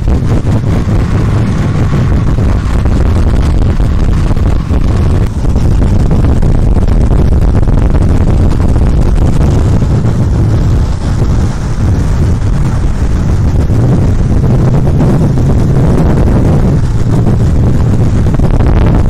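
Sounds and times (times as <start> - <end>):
skateboard wheels rolling on asphalt: 0.0 - 19.0
wind buffeting microphone: 0.0 - 19.0.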